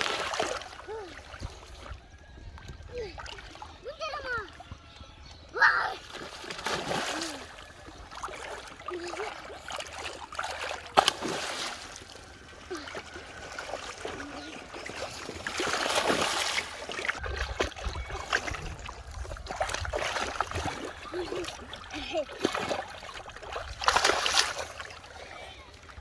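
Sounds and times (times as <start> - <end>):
hands splashing in muddy water: 0.0 - 1.9, 6.0 - 26.0.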